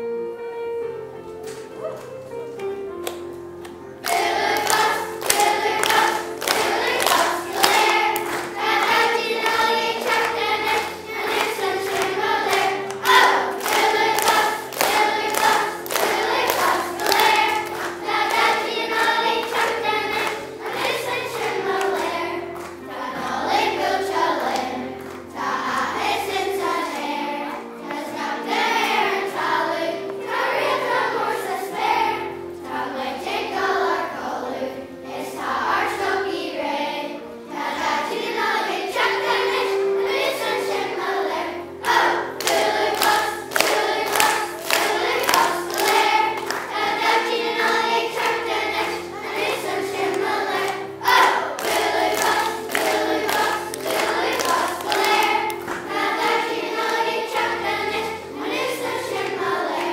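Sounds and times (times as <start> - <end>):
children's choir singing: 1.4 - 59.9.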